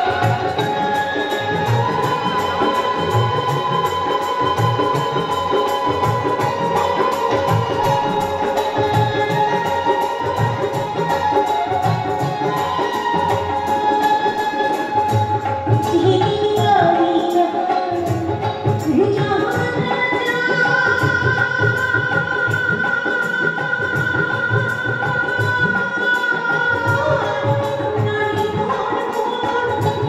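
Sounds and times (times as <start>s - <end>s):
dhol and tabla beat: 0.0s - 30.0s
harmonium violin and lute accompaniment: 0.0s - 30.0s
woman singing: 0.0s - 30.0s.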